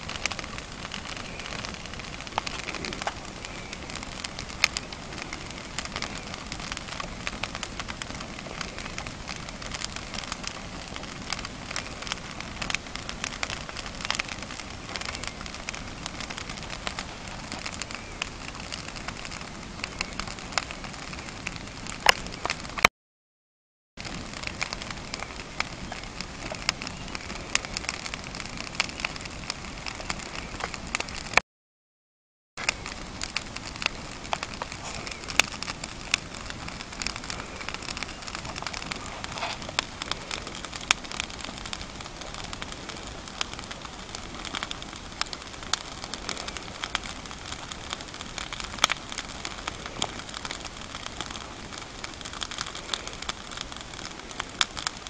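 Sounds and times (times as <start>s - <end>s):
wood fire crackling: 0.0s - 22.9s, 24.0s - 31.4s, 32.6s - 55.0s.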